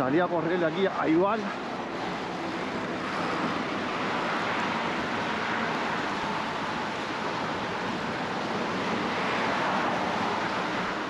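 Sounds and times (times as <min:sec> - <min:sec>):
highway traffic passing: 0:00.0 - 0:11.0
wind: 0:00.0 - 0:11.0.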